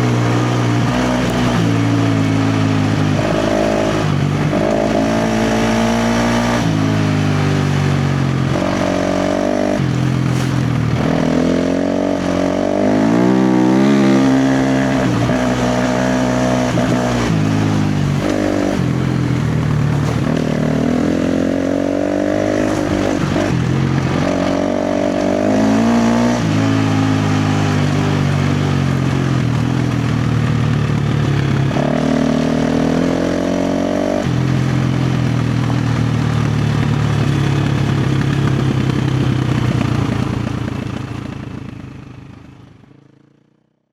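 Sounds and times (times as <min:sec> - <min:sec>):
dirt bike engine revving: 0:00.0 - 0:41.6.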